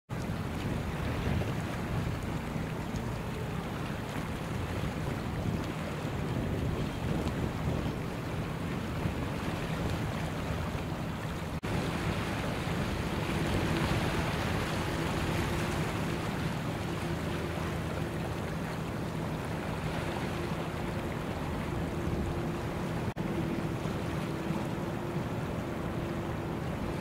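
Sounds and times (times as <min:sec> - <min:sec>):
rushing water wash: 0:00.1 - 0:27.0.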